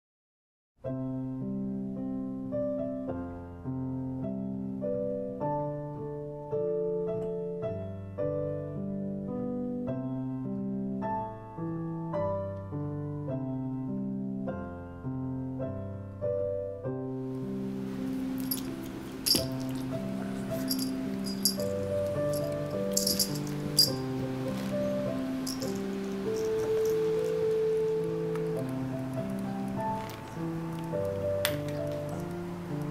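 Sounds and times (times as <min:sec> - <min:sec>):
slow solo piano: 0:00.8 - 0:32.9.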